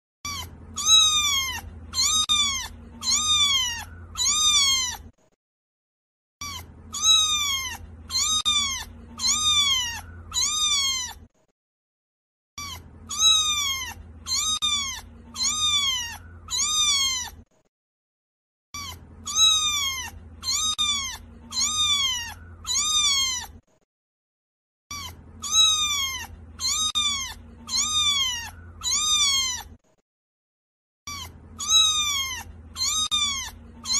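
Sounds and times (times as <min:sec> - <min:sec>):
cat meowing: 0:00.2 - 0:05.1, 0:06.4 - 0:11.3, 0:12.6 - 0:17.5, 0:18.7 - 0:23.7, 0:24.9 - 0:29.8, 0:31.1 - 0:33.9.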